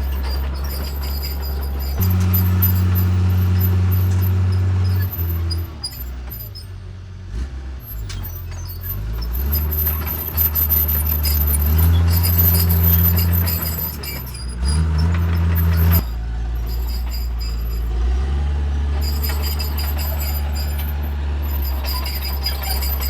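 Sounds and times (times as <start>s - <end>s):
diesel earthmover engine working: 0.0s - 23.0s.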